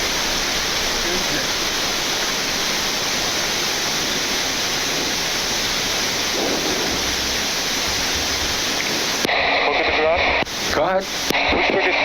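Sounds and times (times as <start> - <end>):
rushing hiss of airflow: 0.0 - 9.3, 10.4 - 11.4.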